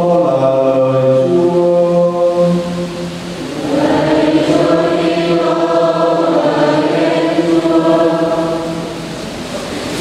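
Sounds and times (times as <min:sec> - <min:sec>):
congregation and choir singing: 0:00.0 - 0:09.6.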